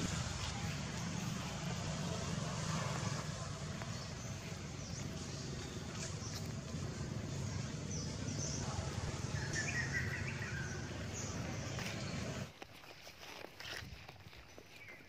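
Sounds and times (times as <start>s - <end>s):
low background rumble: 0.0s - 12.5s.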